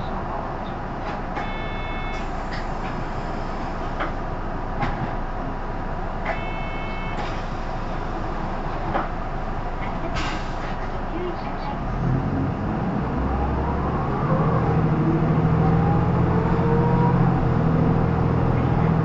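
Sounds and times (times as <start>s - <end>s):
bus engine and road noise: 0.0s - 19.0s.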